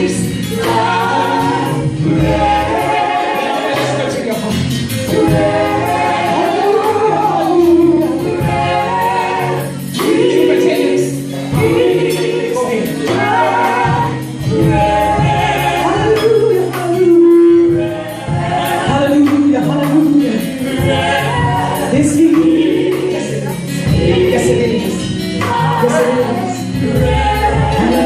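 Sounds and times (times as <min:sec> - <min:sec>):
gospel choir singing: 0:00.0 - 0:28.0
instrumental accompaniment: 0:00.0 - 0:28.0
steady bass line: 0:00.0 - 0:28.0.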